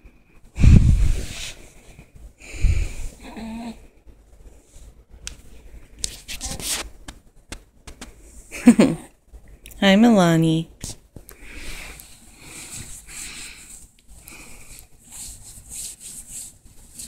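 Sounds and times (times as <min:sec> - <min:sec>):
soft rustling: 0:00.5 - 0:08.6, 0:10.8 - 0:17.0.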